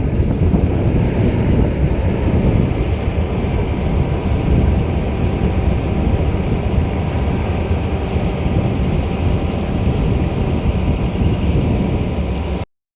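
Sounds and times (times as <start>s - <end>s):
freight train rumbling past: 0.0s - 12.6s.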